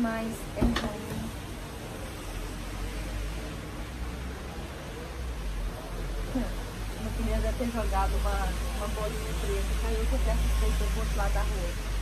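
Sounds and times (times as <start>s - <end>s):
street traffic hiss: 0.0s - 12.0s.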